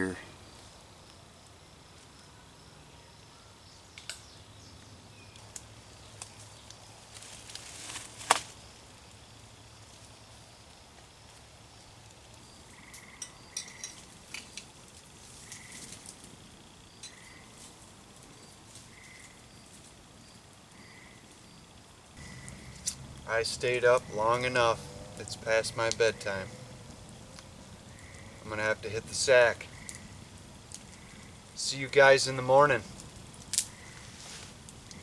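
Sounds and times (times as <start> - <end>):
rustle: 0.0 - 35.0.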